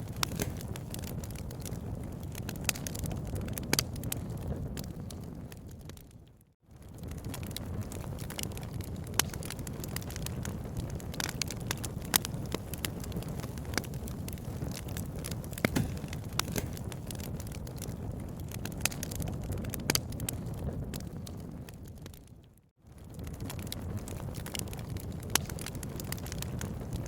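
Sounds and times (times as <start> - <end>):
firewood crackling and popping: 0.0 - 27.0.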